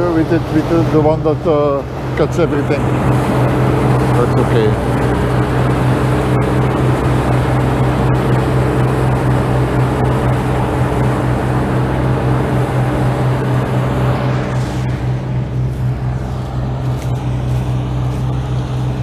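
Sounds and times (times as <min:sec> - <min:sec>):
harvester engine humming: 0:00.0 - 0:19.0.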